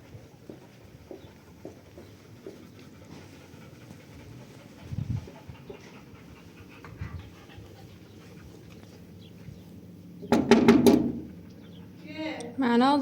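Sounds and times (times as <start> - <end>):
dog panting: 0.0 - 9.9, 11.1 - 12.3.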